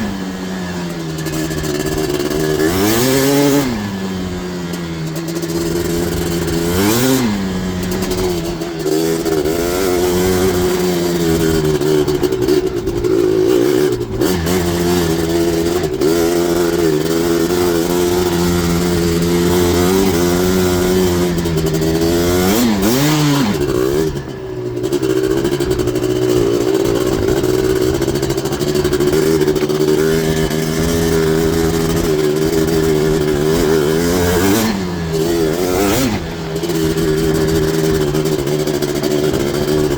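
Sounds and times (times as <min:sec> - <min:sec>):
two-stroke engine at full throttle: 0:00.0 - 0:39.9.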